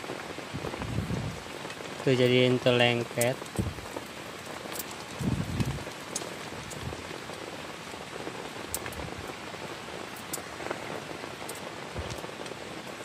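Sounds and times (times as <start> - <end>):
heavy rain on a tent: 0.0 - 13.0.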